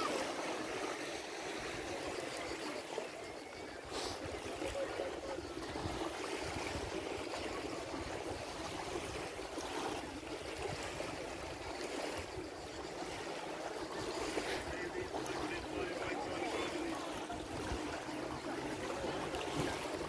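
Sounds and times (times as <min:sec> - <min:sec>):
small waves lapping on sandy shore: 0:00.0 - 0:20.0.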